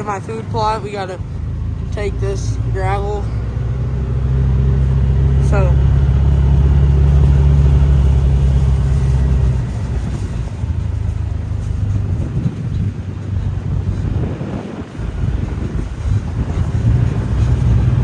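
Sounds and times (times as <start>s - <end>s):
off-road vehicle engine: 0.0s - 18.0s.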